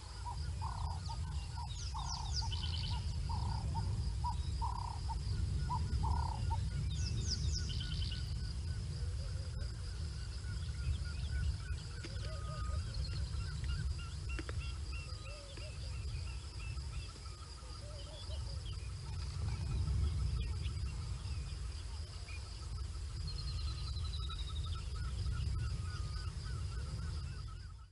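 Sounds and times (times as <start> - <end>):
low rumble: 0.0 - 15.2, 18.5 - 27.7
wild birds chirping: 0.0 - 27.9.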